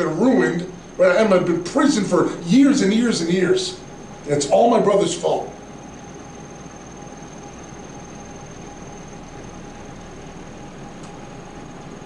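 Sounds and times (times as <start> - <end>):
background hiss: 0.0 - 11.6
faint high whine and hum: 0.0 - 12.0.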